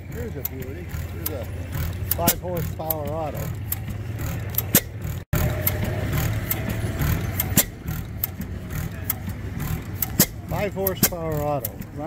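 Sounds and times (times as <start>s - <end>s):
gas engine running: 0.0s - 12.0s
sharp clicks from engine parts: 0.0s - 12.0s.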